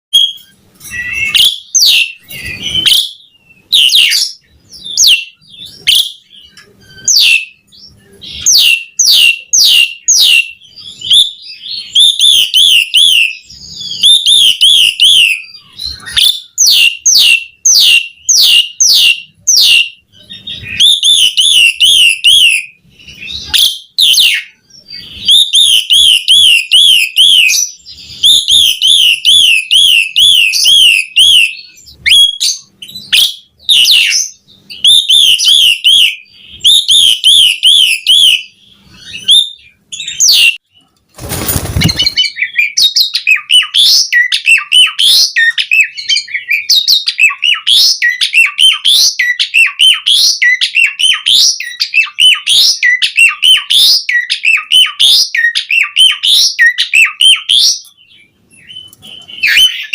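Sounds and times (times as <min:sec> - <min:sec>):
starling singing: 0:00.1 - 0:59.9.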